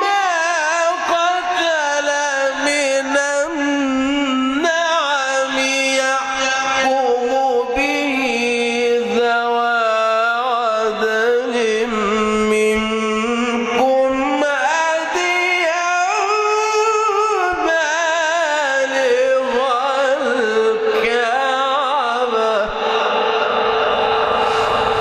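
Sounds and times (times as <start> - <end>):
man chanting melodically: 0.0 - 23.1.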